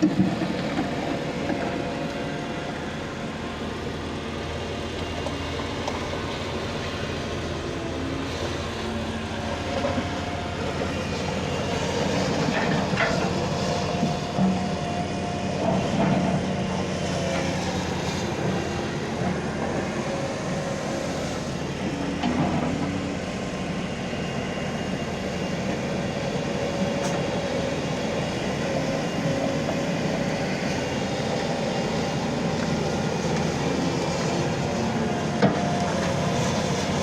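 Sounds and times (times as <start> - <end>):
excavator engine running: 0.0 - 37.0.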